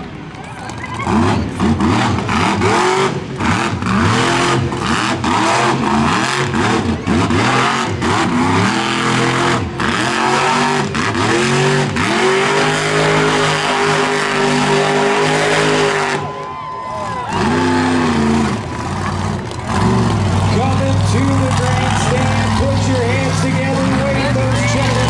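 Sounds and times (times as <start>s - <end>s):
monster truck engine revving: 0.7s - 25.0s.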